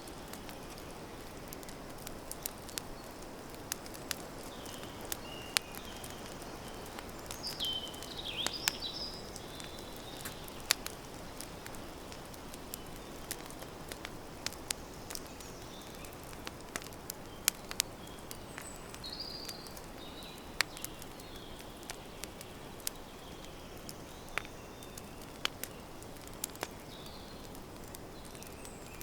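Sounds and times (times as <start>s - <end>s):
campfire crackling: 0.0s - 29.0s
birds chirping: 2.3s - 13.6s, 14.4s - 27.6s.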